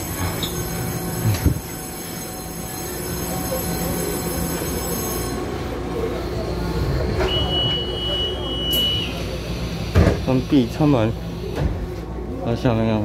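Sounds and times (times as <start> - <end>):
train interior hum and rumble: 0.0 - 12.8.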